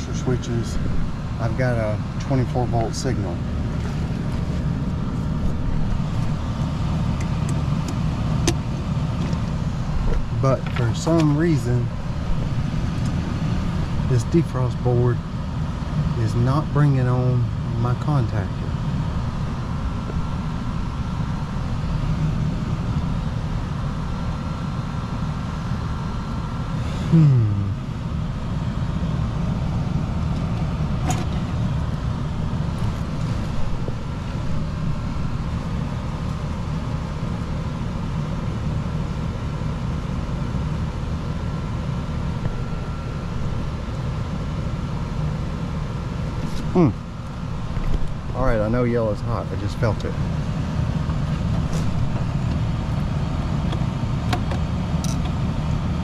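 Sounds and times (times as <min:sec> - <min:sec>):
faint constant tones: 0:00.0 - 0:26.9, 0:27.7 - 0:56.0
air conditioning hum: 0:00.0 - 0:56.0.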